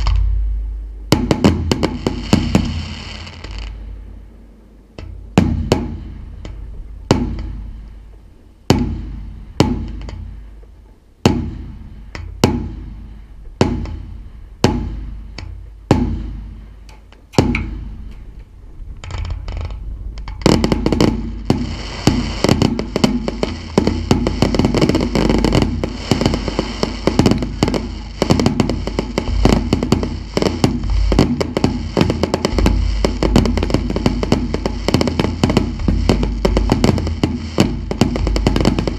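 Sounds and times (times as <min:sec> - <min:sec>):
firework shells bursting: 0:00.0 - 0:04.0, 0:05.0 - 0:38.9
fireworks crackling and popping: 0:00.0 - 0:04.0, 0:05.0 - 0:38.9.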